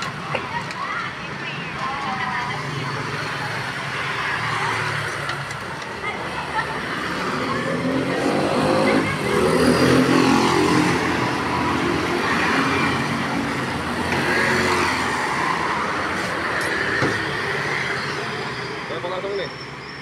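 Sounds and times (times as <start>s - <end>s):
car engines passing: 0.0s - 20.0s
motorbike engines passing: 0.0s - 20.0s.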